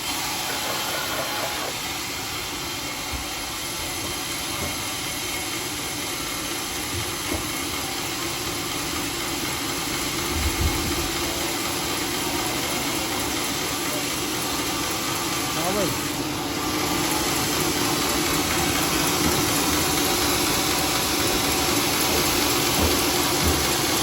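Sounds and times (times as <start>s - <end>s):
sawmill running: 0.0s - 24.0s.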